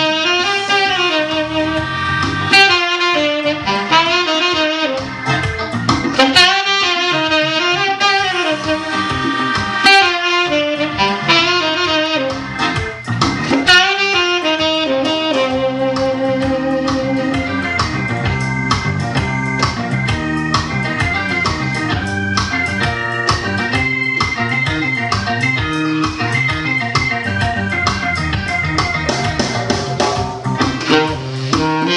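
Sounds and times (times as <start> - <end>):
band with drum beat: 0.0 - 31.9
jazz saxophone melody: 0.0 - 31.9
organ chords: 0.0 - 31.9.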